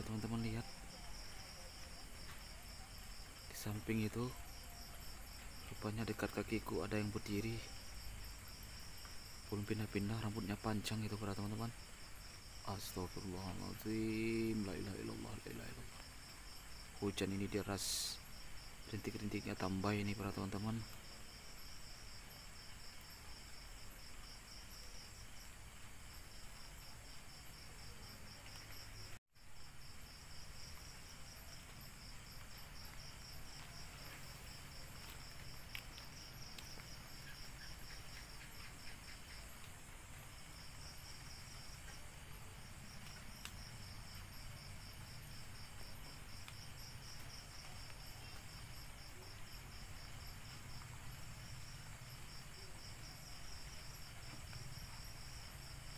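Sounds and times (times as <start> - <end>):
night insects chirping: 0.0 - 55.9
rain hiss: 0.0 - 55.9.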